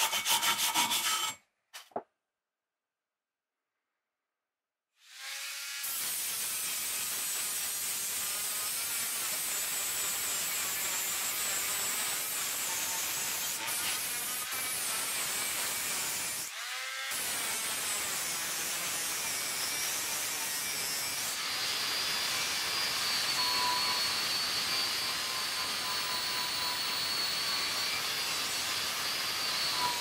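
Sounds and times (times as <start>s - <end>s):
angle grinder sanding metal: 0.0s - 1.4s, 5.8s - 30.0s.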